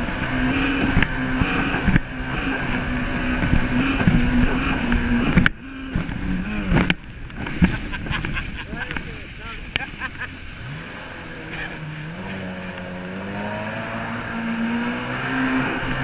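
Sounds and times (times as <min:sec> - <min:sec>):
jet ski engine running: 0:00.0 - 0:16.0
water and wind noise: 0:00.0 - 0:16.0.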